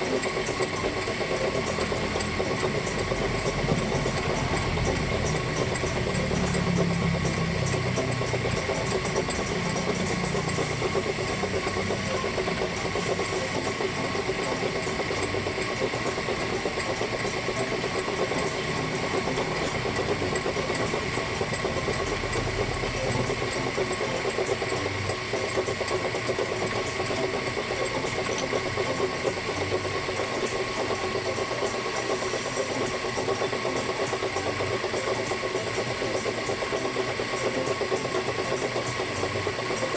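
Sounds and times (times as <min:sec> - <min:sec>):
machine running rhythmically: 0:00.0 - 0:39.9
steady whining tones: 0:00.0 - 0:39.9.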